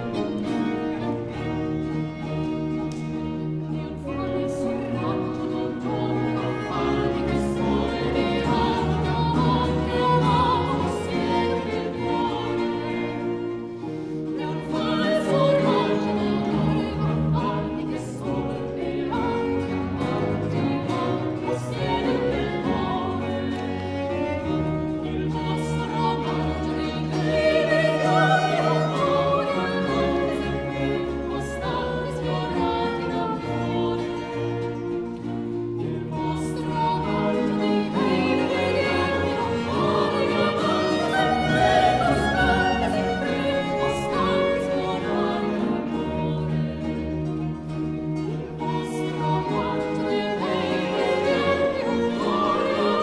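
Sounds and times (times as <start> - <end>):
bowed strings: 0.0 - 53.0
plucked strings: 0.0 - 53.0
sopranos singing in harmony: 0.0 - 53.0.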